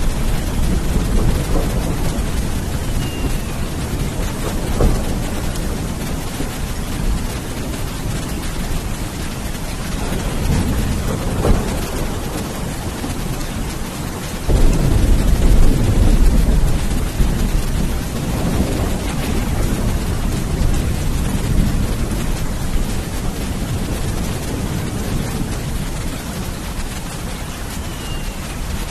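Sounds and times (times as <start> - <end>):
thunder crack: 0.0 - 27.3
heavy rain: 0.0 - 28.9
low rumble of thunder: 0.0 - 28.9.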